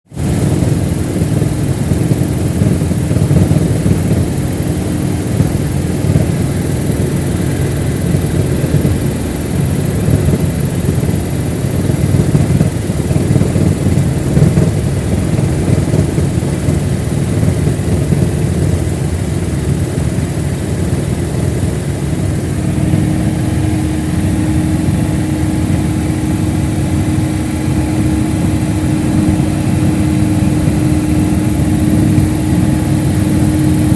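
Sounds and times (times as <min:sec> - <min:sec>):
helicopter rotor and turbine noise: 0:00.1 - 0:33.9.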